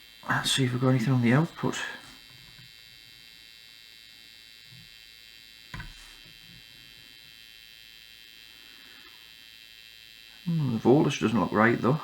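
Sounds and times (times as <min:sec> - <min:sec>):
power supply high-pitched buzz: 0:00.0 - 0:12.0.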